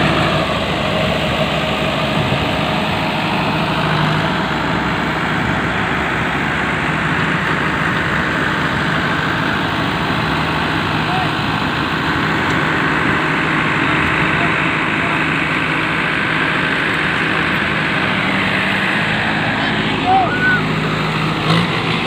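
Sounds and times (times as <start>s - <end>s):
tractor diesel engines idling: 0.0s - 22.0s.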